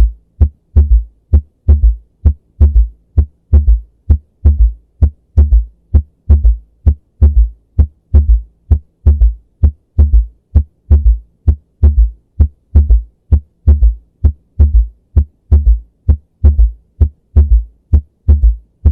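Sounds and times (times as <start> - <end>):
heartbeat through stethoscope: 0.0 - 18.9.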